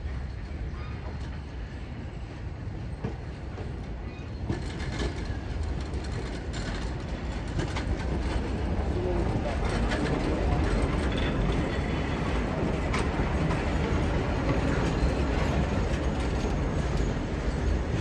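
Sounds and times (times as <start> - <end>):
train coaches rumbling: 0.0 - 18.0.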